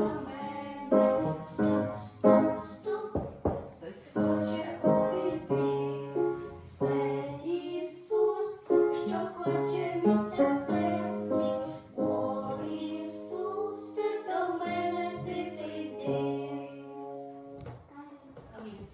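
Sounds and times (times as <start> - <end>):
children's song singing: 0.0 - 17.6
piano accompaniment: 0.0 - 17.9.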